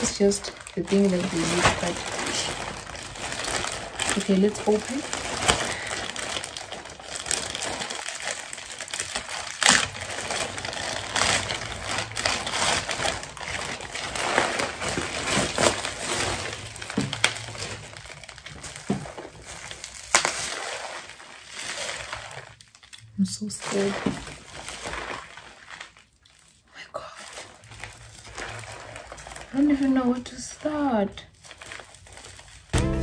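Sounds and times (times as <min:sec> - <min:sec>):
bubble wrap rustling: 0:00.0 - 0:33.0
plastic bag tearing and crinkling: 0:00.0 - 0:33.0.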